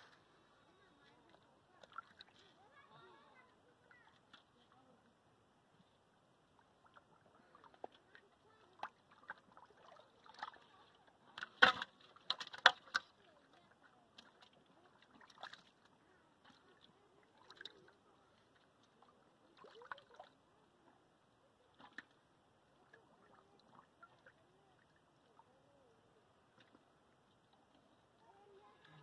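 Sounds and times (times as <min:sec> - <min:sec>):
muddy water splashing: 0:00.0 - 0:03.3, 0:06.4 - 0:20.8, 0:21.4 - 0:29.0.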